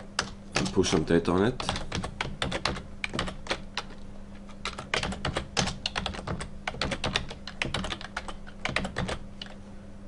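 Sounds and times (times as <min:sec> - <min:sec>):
steady low hum: 0:00.0 - 0:10.0
typing on computer keyboard: 0:00.2 - 0:04.0, 0:04.6 - 0:09.6.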